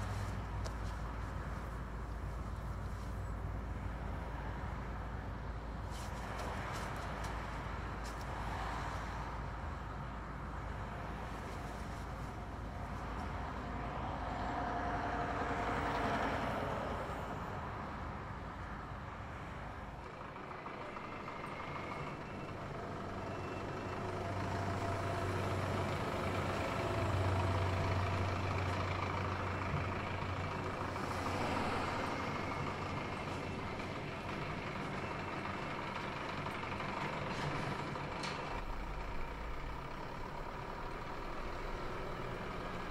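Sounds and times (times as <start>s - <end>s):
truck engine and road noise: 0.0s - 42.9s.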